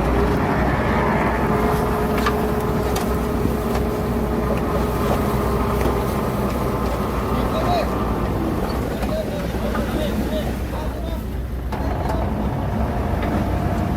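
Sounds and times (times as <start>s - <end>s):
heavy diesel engine rumbling: 0.0s - 13.9s.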